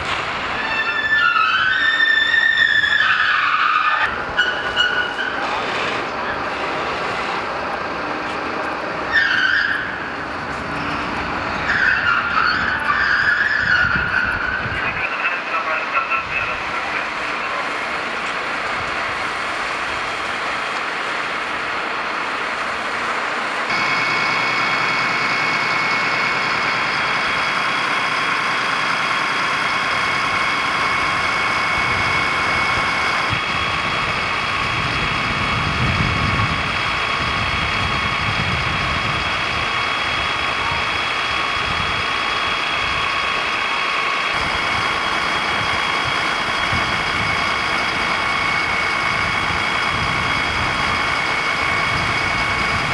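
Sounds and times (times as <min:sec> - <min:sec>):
fire engine drone: 0:00.0 - 0:52.9
high steady whine: 0:04.1 - 0:52.9.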